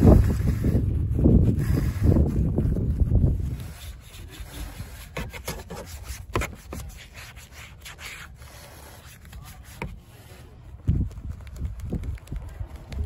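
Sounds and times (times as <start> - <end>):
brush scrubbing car grille: 0.0 - 13.0.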